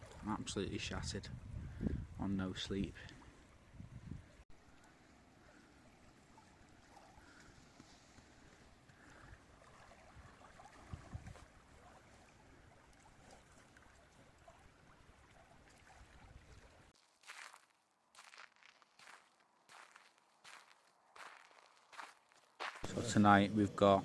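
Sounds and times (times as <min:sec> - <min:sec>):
water lapping at the shore: 0:00.0 - 0:01.3, 0:02.6 - 0:23.2.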